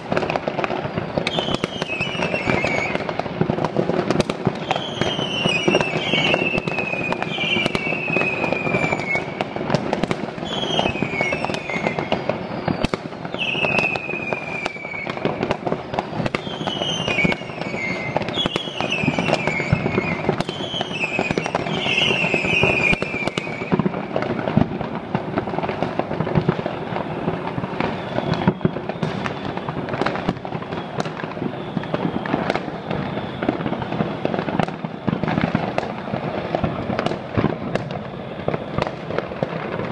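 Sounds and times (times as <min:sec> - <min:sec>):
falling firework whistles: 0:00.0 - 0:39.9
fireworks bangs and crackles: 0:00.0 - 0:39.9.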